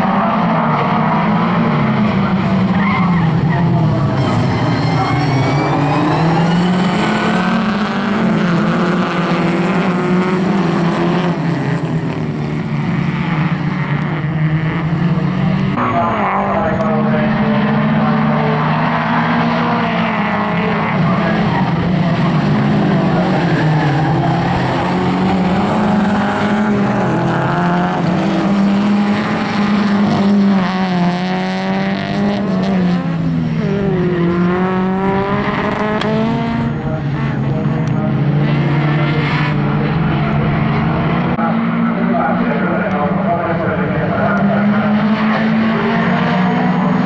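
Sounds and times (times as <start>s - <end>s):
racing car engines revving: 0.0s - 47.0s.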